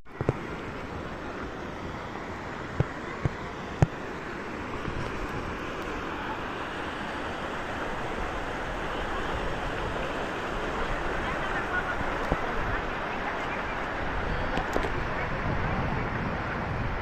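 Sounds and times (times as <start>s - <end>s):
flowing water rushing: 0.1s - 17.0s.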